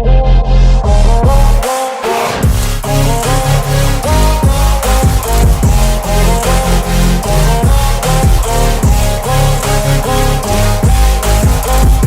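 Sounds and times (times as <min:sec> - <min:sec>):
electronic dance music: 0:00.9 - 0:12.0.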